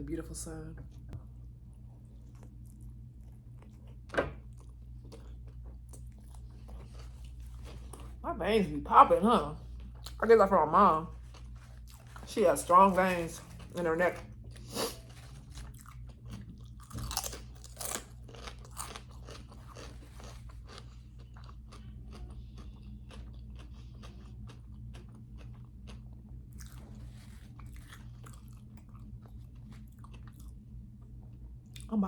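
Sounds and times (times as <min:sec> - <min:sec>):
steady low hum: 0:00.0 - 0:32.0
person chewing crunchy food: 0:01.6 - 0:08.2, 0:11.1 - 0:12.4, 0:13.1 - 0:31.9.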